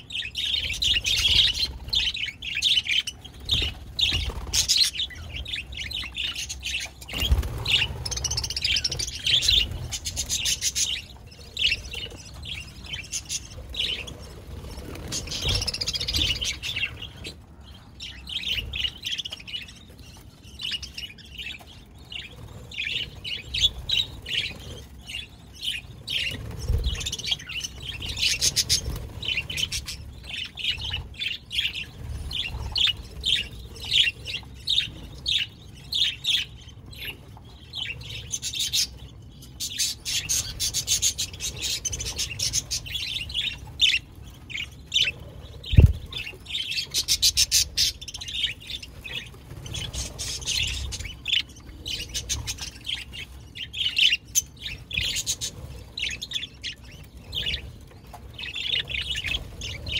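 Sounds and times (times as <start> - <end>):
budgerigars chirping: 0.0 - 17.4, 20.6 - 57.8, 58.4 - 59.9.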